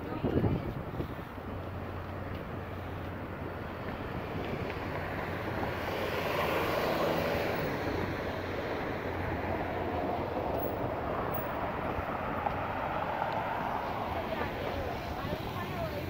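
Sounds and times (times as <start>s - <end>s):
street traffic hum: 0.0s - 16.0s
vehicle passing close: 3.1s - 16.0s.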